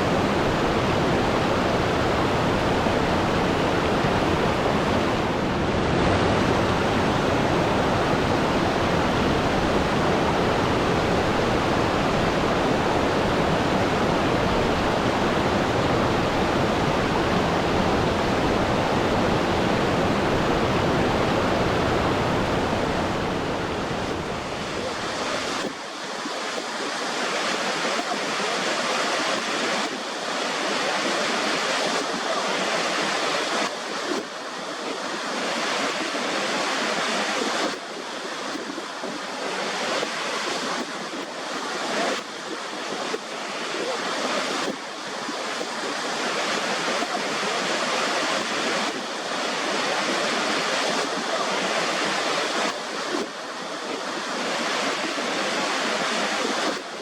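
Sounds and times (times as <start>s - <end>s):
rushing water: 0.0s - 57.0s
water surging like surf: 0.0s - 57.0s.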